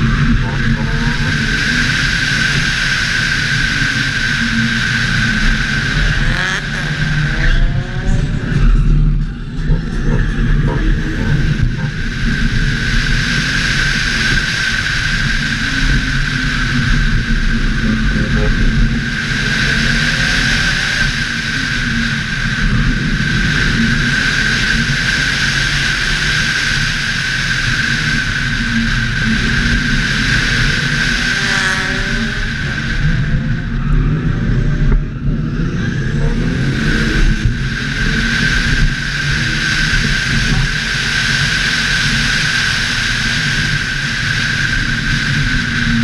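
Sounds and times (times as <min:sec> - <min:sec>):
car engine running hard: 0:00.0 - 0:46.0
steady high whine: 0:00.0 - 0:46.0
wind rush: 0:00.0 - 0:46.0.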